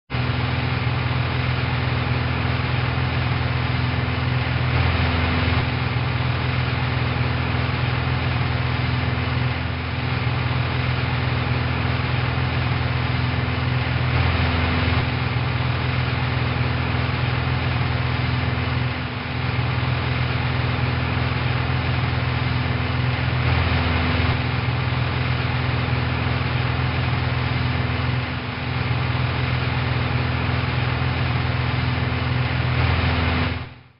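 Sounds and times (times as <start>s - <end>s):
airplane engine drone: 0.1s - 33.9s.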